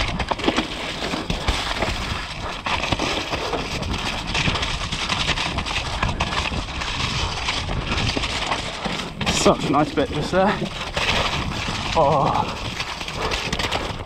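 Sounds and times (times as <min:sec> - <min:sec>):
bike rattling on rough ground: 0:00.0 - 0:14.0
bike tyres on mud: 0:00.0 - 0:14.0.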